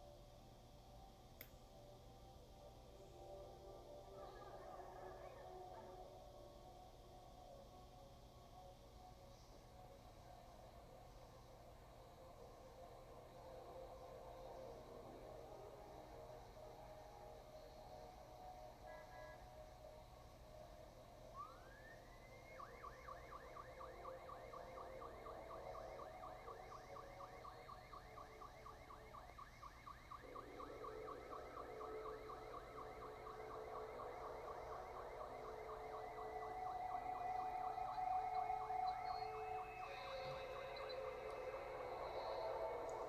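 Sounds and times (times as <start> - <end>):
warbling siren: 3.0 - 6.8, 9.8 - 43.0.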